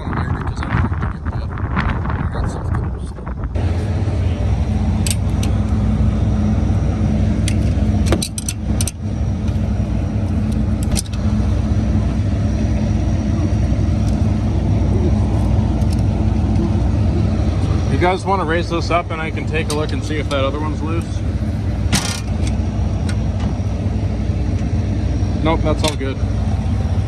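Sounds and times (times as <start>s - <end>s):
combine engine running: 0.0s - 27.0s.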